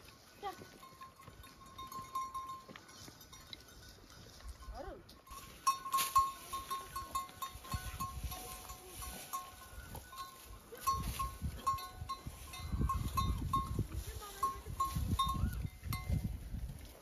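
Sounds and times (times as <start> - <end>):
goats: 0.0 - 17.0.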